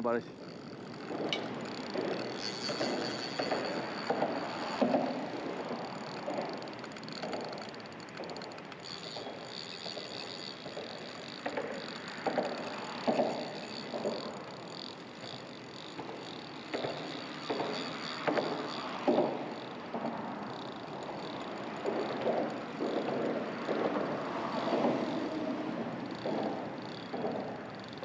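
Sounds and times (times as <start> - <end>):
fishing reel ticking: 0.0 - 28.0.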